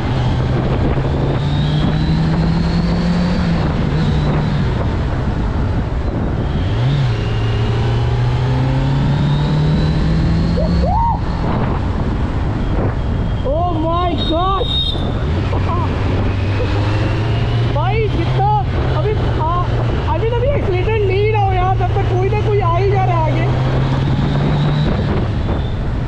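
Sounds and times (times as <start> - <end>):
motorcycle engine accelerating: 0.0 - 13.4, 14.7 - 26.0
rushing wind: 0.0 - 26.0.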